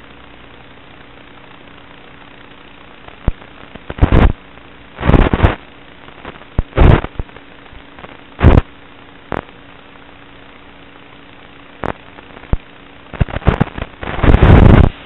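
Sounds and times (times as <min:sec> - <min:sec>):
faint steady hum: 0:00.0 - 0:15.0
bursts of crackling noise: 0:00.1 - 0:15.0.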